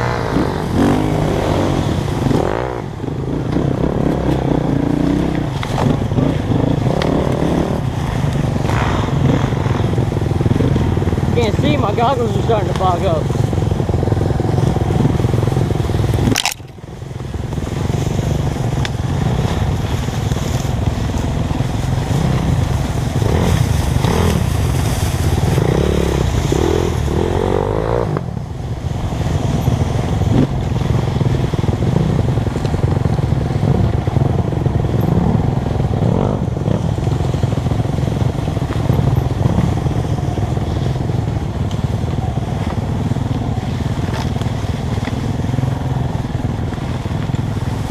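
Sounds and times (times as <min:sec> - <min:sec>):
dirt bike engine revving: 0:00.0 - 0:16.7, 0:17.5 - 0:47.9.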